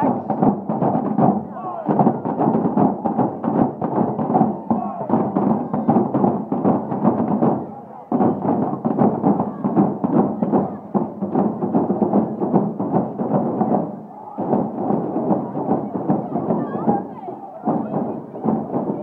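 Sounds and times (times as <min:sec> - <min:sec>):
crowd noise: 0:00.0 - 0:19.0
drums beating: 0:00.0 - 0:19.0.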